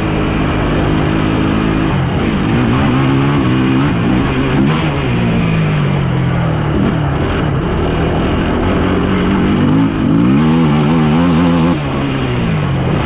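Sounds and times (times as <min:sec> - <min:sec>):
off-road vehicle engine: 0:00.0 - 0:13.0
rushing wind noise: 0:00.0 - 0:13.0.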